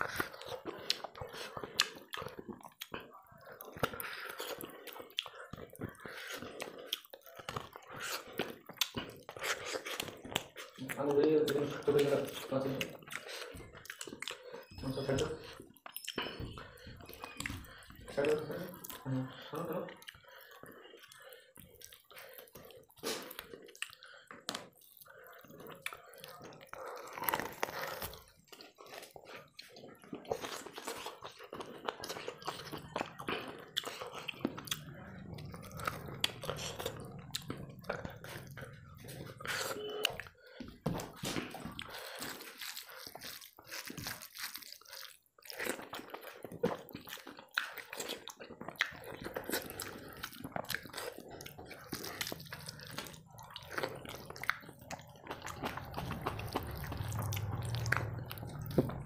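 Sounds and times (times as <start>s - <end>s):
chewing with wet smacks: 0.0s - 59.0s.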